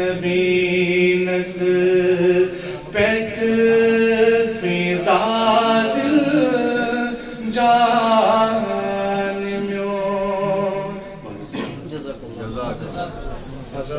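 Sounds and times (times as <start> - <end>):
man chanting devotional poem: 0.0 - 13.9.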